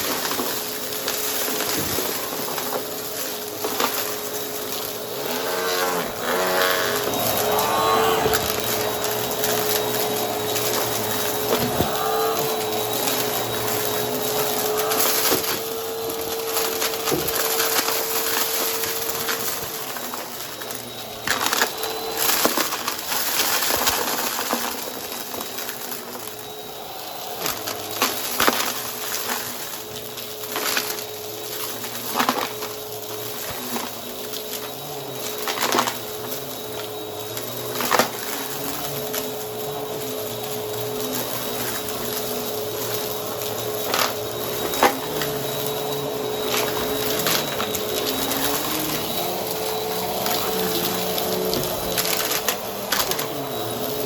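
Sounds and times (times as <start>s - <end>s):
debris crackling in vacuum: 0.0s - 54.0s
vacuum cleaner motor whine: 0.0s - 54.0s.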